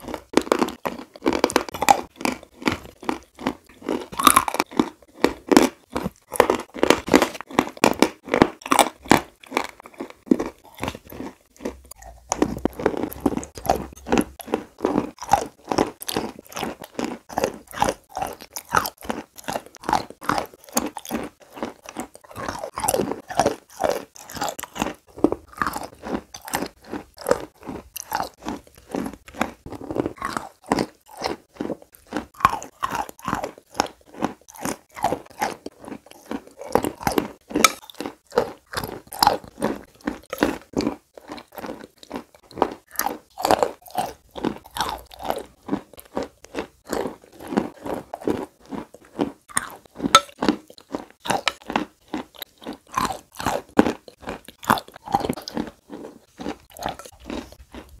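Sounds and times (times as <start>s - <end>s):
crunching chalk: 0.0s - 57.9s.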